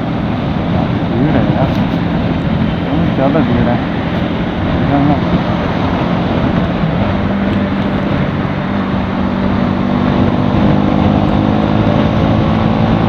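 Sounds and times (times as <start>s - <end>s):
motorcycle engine running: 0.0s - 13.0s
traffic rush: 0.0s - 13.0s.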